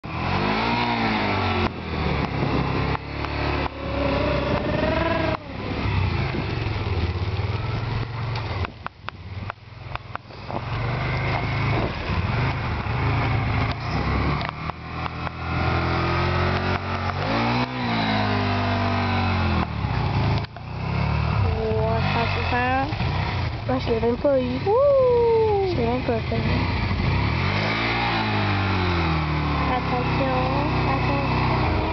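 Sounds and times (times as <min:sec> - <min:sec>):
engine revving: 0:00.0 - 0:31.9.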